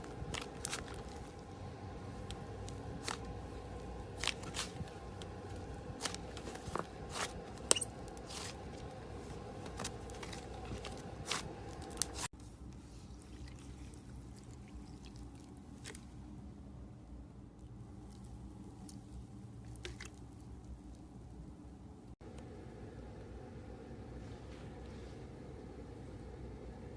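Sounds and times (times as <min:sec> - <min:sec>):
soft slime squish: 0:00.0 - 0:21.9.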